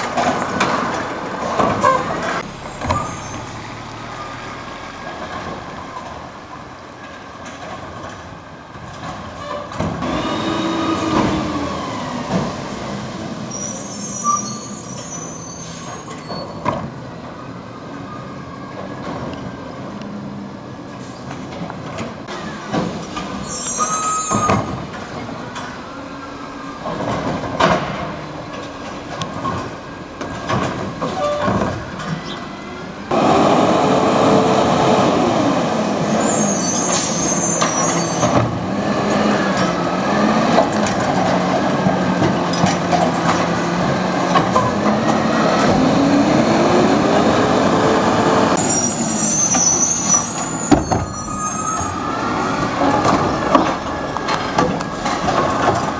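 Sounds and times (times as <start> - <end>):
garbage truck engine and machinery: 0.0 - 55.9.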